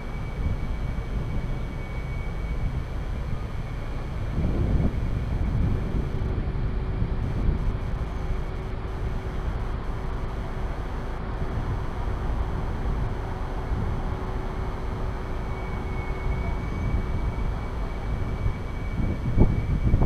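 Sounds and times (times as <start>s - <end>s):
faint steady hum: 0.0s - 20.0s
highway traffic rumble: 0.0s - 20.0s.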